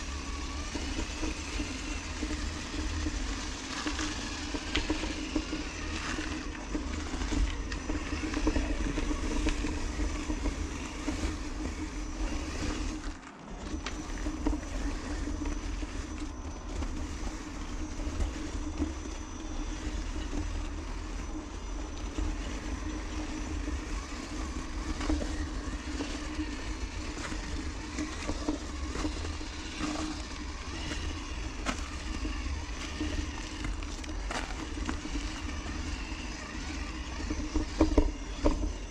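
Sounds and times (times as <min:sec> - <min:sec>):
toy car electric motor whining: 0:00.0 - 0:38.9
wheels on gravel: 0:00.0 - 0:38.9.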